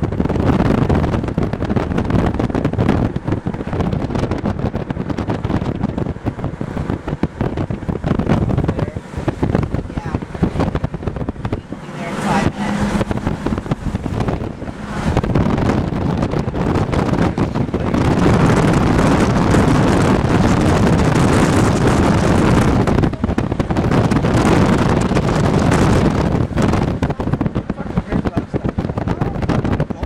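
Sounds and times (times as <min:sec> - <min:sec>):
storm wind buffeting microphone: 0:00.0 - 0:30.0.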